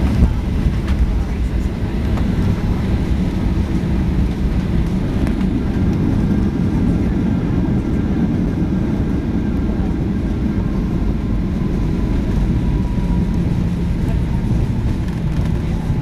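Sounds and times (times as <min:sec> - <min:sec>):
low engine rumble and airflow: 0:00.0 - 0:16.0.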